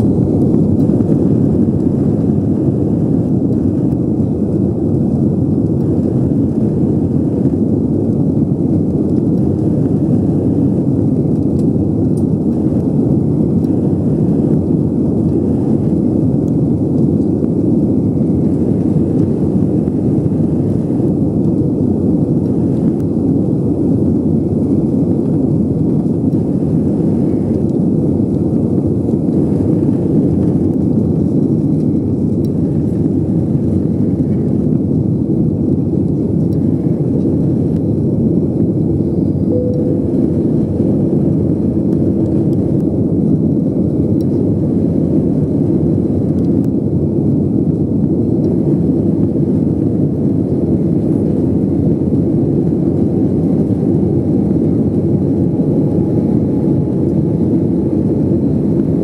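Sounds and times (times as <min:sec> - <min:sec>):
jet engines roaring: 0:00.0 - 0:59.0.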